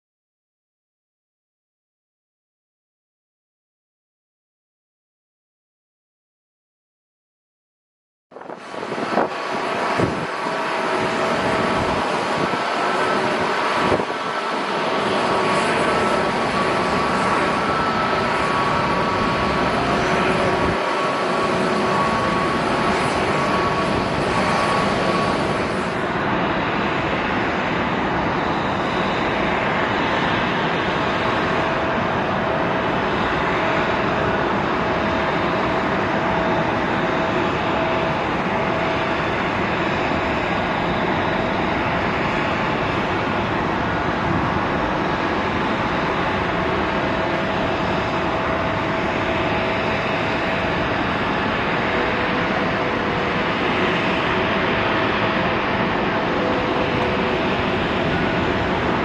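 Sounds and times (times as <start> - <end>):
jet engine roar with whining: 8.3 - 59.0.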